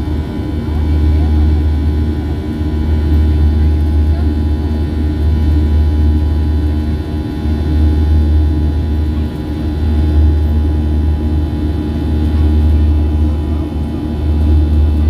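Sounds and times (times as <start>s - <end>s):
jet engine low rumble: 0.0s - 15.0s
thin steady whine: 0.0s - 15.0s.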